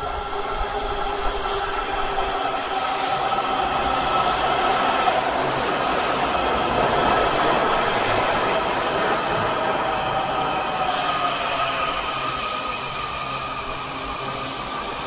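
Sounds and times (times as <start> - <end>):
subway train rumble and whine: 0.0 - 15.0.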